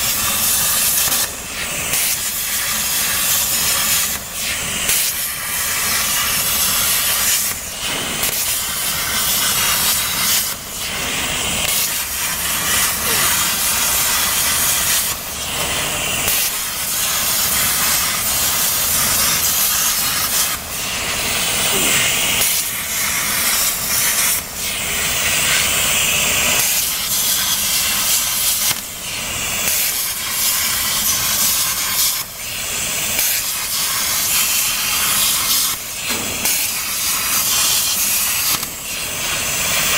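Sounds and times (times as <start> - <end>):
plasma cutter torch hissing: 0.0 - 39.9.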